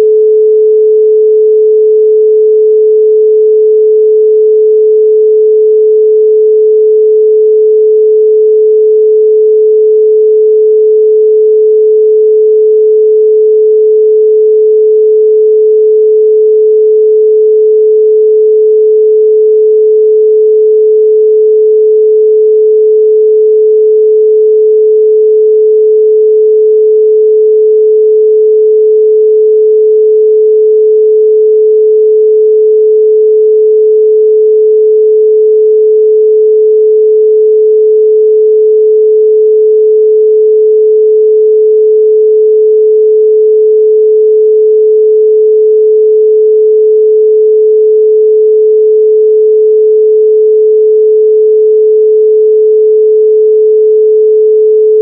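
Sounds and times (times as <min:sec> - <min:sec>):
pure sine tone: 0:00.0 - 0:55.0.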